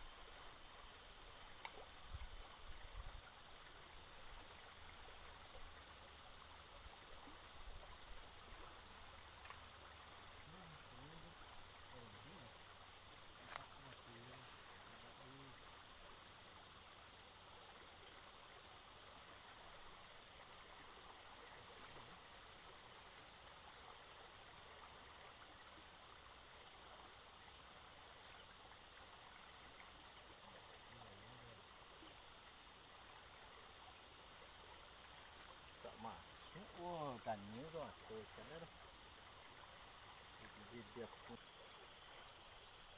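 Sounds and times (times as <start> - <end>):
faint insect chirps: 0.0 - 42.9
insects chorus drone: 0.0 - 42.9.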